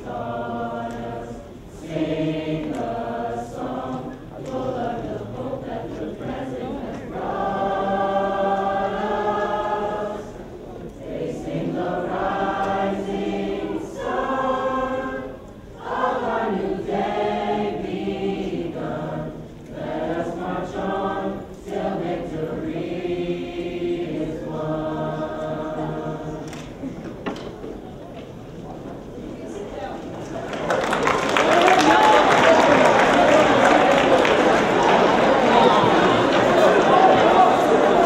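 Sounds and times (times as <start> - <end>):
choir singing: 0.0 - 27.0, 31.3 - 38.0.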